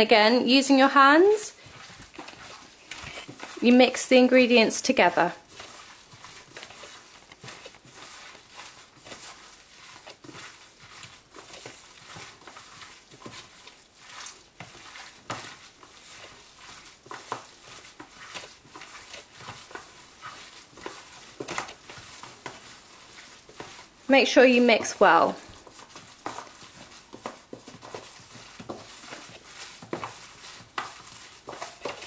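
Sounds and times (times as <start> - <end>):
hands mixing fish paste: 0.0 - 32.0.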